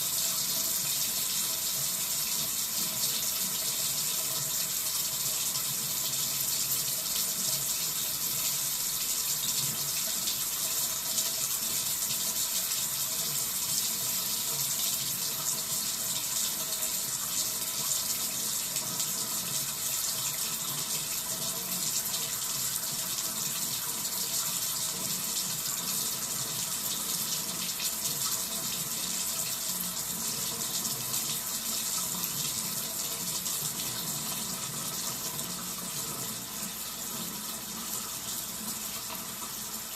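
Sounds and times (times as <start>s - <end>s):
tap running water: 0.0s - 39.9s.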